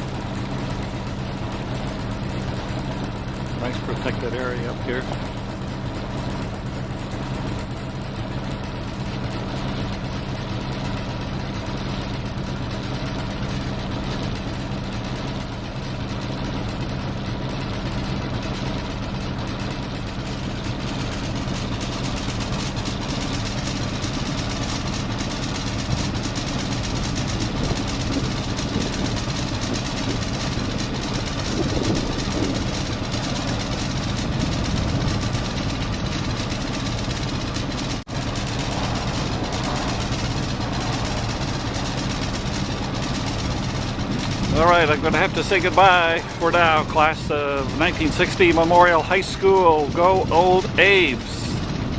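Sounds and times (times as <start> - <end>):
boat engine running steadily: 0.0 - 51.9.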